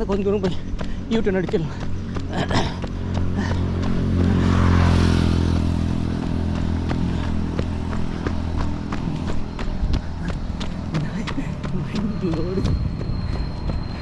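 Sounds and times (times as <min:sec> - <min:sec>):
motorbike passing: 0:00.0 - 0:14.0.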